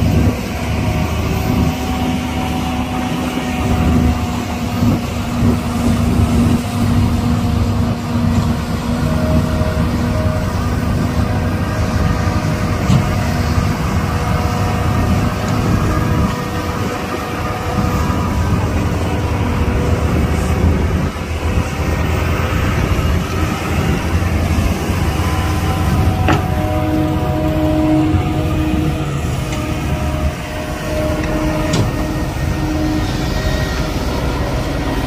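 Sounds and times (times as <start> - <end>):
diesel engine rumble: 0.0 - 35.0
whining tones: 0.0 - 35.0.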